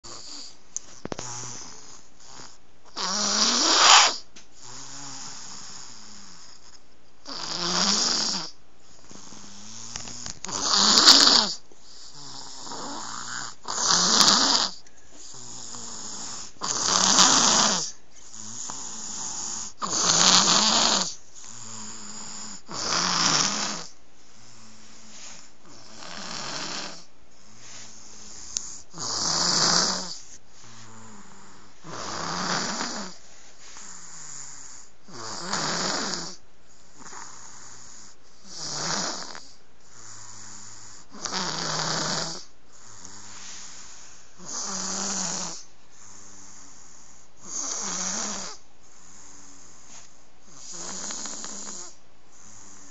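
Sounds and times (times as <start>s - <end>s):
quiet breathing: 0.0s - 3.0s, 8.5s - 35.6s, 36.3s - 52.9s
baby snoring loudly: 0.0s - 33.2s, 33.8s - 43.6s, 44.4s - 52.9s.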